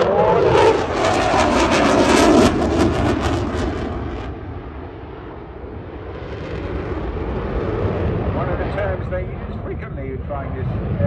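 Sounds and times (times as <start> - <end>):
jet engine roar with crackle: 0.0 - 11.0.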